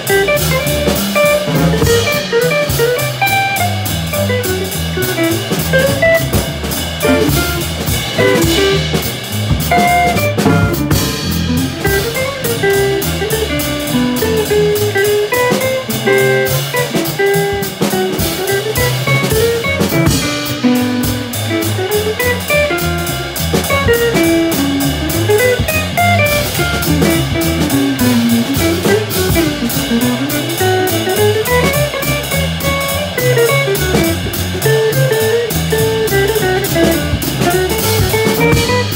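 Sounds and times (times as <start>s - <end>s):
drum kit cymbals: 0.0s - 38.9s
guitar melody: 0.0s - 38.9s
walking upright bass: 0.0s - 38.9s.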